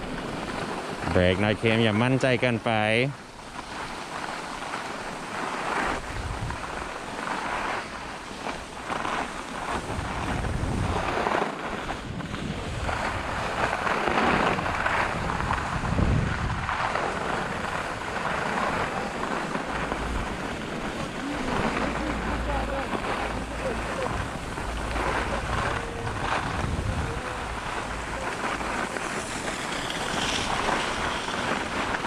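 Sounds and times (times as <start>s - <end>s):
skis scraping on packed snow: 0.0s - 32.0s
wind rushing over microphone: 0.0s - 32.0s.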